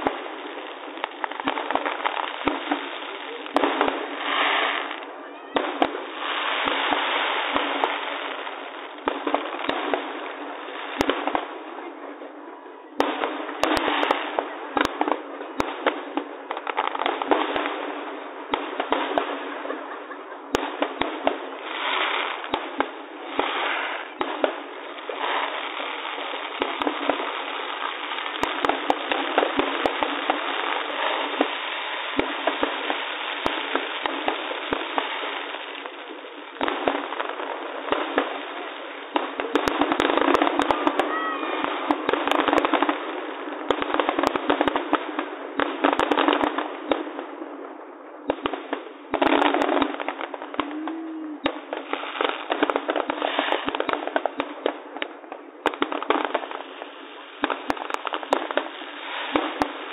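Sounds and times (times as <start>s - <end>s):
firework bangs: 0.0s - 59.9s
firework crackling: 0.0s - 59.9s.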